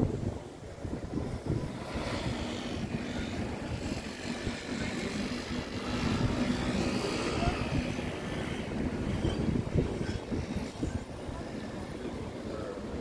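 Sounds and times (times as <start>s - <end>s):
distant engine hum: 0.0s - 13.0s
wind buffeting microphone: 0.0s - 13.0s.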